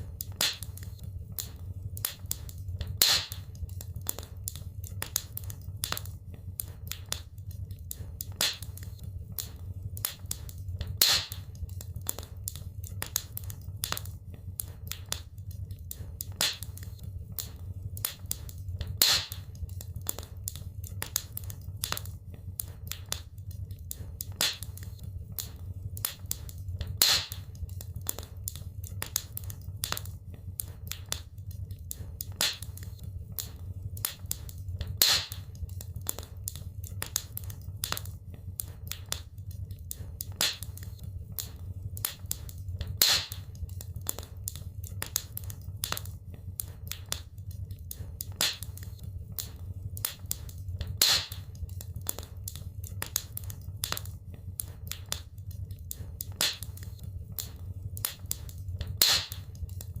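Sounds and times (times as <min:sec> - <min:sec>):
fire popping: 0:00.0 - 1:00.0
wood fire crackling: 0:00.0 - 1:00.0.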